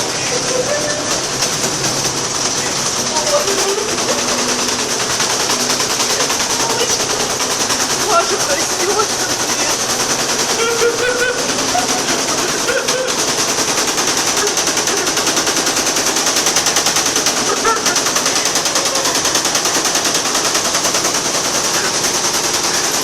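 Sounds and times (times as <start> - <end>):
washing machine rattling on spin: 0.0 - 23.0.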